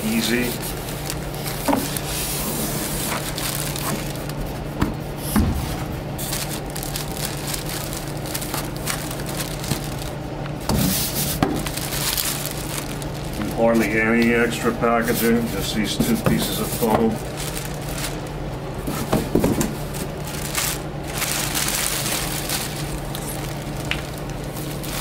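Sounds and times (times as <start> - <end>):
foam packing pieces scraping: 0.0 - 14.1, 15.0 - 25.0
plastic bag crinkling: 0.0 - 15.2, 16.5 - 25.0.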